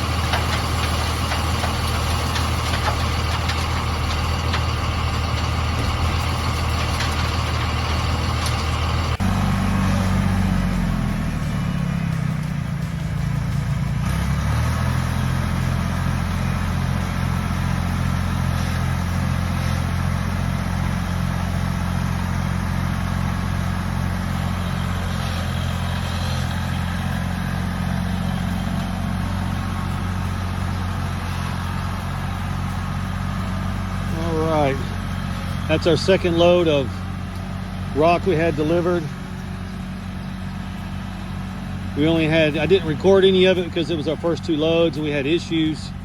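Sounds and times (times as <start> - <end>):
vehicle engine running: 0.0 - 46.0.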